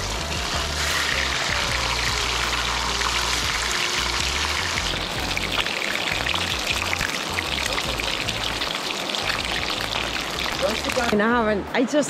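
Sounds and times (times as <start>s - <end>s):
fish sizzling in hot oil: 0.0s - 11.2s
background music with bass: 0.0s - 11.8s.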